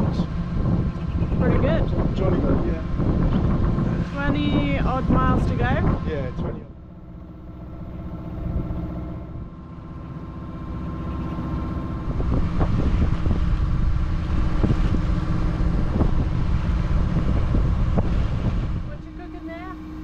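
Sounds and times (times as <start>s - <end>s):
boat engine running: 0.0s - 20.0s
wind and water rushing: 0.0s - 20.0s.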